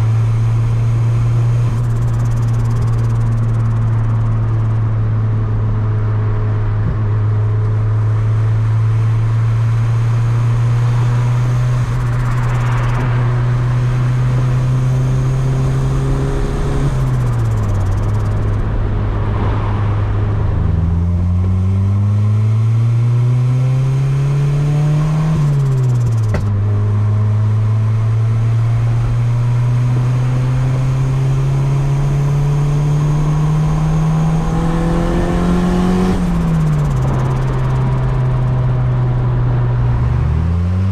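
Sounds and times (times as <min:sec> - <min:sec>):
turbocharged car engine running: 0:00.0 - 0:40.9.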